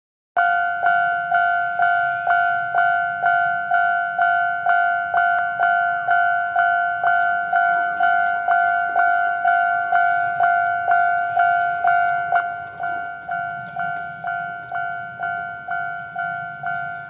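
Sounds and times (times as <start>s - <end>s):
level crossing bell ringing: 0.4s - 17.0s.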